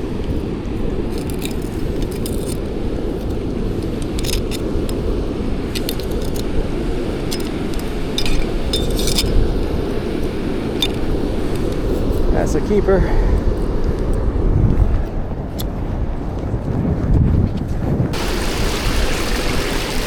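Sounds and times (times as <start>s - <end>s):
beach wind and surf rumble: 0.0s - 20.0s.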